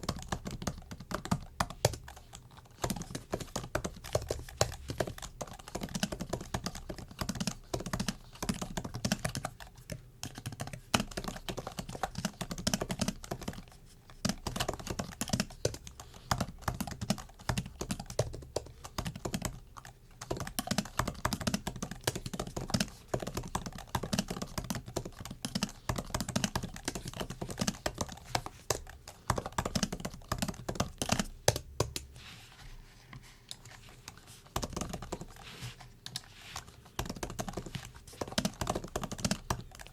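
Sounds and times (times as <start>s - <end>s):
laptop keyboard typing: 0.0s - 32.1s, 33.5s - 39.9s.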